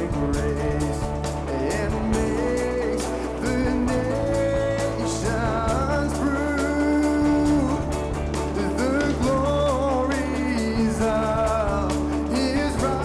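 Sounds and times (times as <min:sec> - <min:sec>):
bass line: 0:00.0 - 0:13.0
guitar: 0:00.0 - 0:13.0
man singing into microphone: 0:00.0 - 0:13.0.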